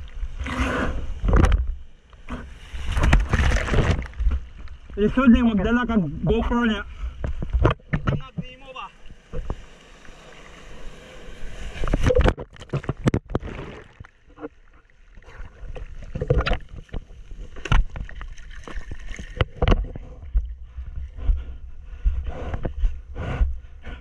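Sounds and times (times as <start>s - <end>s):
water splashing on camera: 0.0s - 5.9s, 7.0s - 21.0s.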